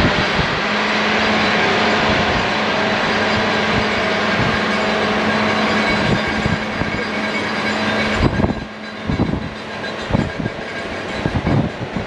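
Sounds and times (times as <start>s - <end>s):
rack railway train running: 0.0s - 12.0s.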